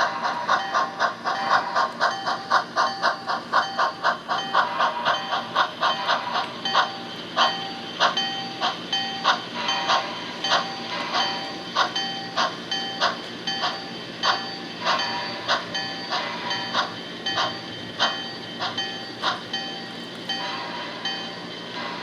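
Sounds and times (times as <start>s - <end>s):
model train wheels clicking: 0.0s - 22.0s.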